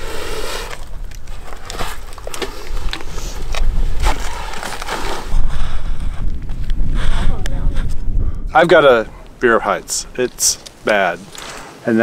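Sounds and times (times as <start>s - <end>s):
boots and poles on rock: 0.0s - 6.8s, 8.8s - 11.8s
wind buffeting microphone: 0.0s - 11.6s.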